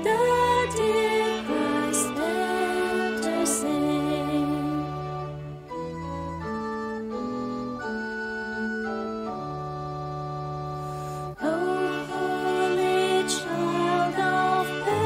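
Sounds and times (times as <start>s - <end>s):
organ playing hymn chords: 0.0s - 15.0s.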